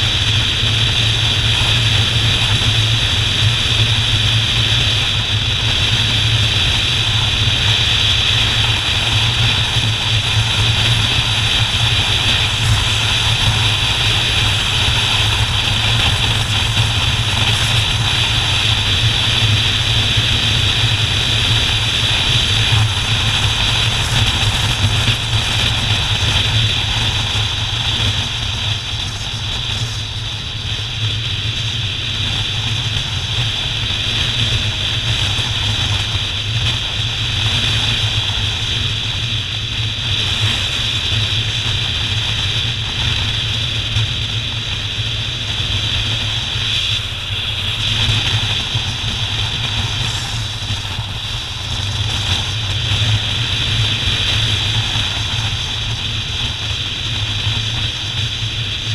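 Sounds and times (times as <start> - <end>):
motorcycle engine running: 0.0 - 58.9
road and wind rush: 0.0 - 58.9.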